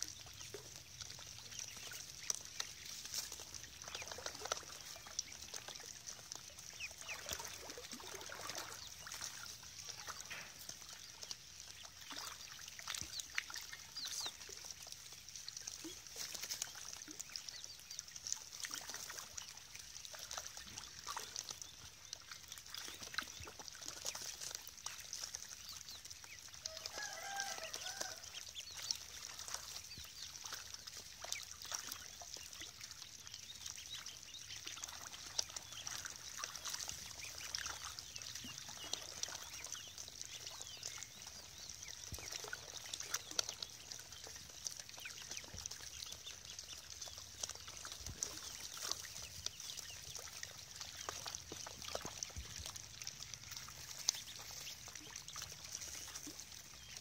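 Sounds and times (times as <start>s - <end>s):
ducklings peeping: 0.0s - 57.0s
ducklings splashing in water: 0.0s - 57.0s.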